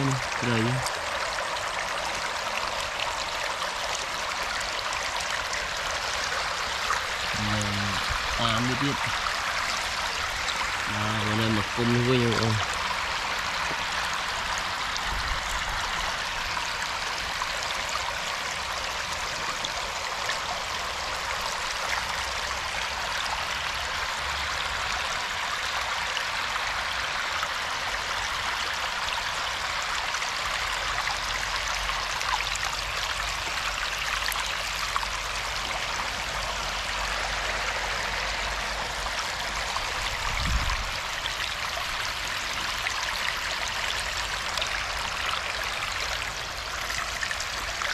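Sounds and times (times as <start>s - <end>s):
water rushing and trickling: 0.0s - 47.9s.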